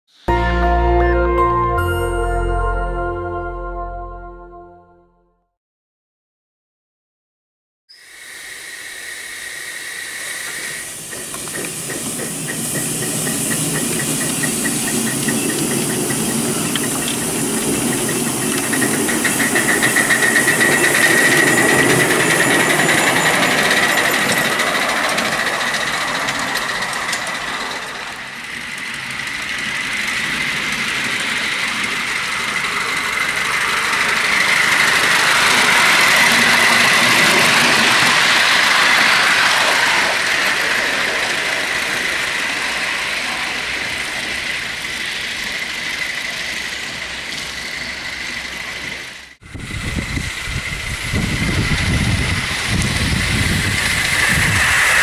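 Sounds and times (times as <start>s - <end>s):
hissing steam: 8.0s - 55.0s
steam locomotive exhaust beats: 10.4s - 55.0s.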